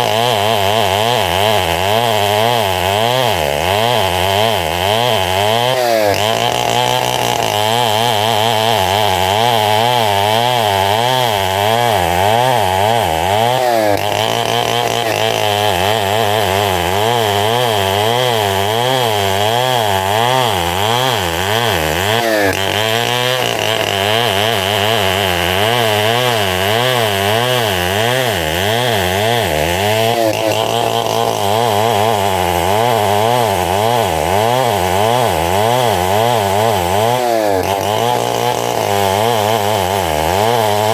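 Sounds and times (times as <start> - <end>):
engine-driven sawmill cutting wood: 0.0 - 40.9.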